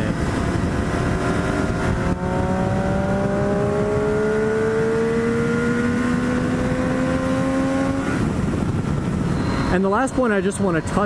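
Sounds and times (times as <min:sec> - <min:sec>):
motorcycle engine accelerating: 0:00.0 - 0:09.7
wind noise: 0:00.0 - 0:11.0.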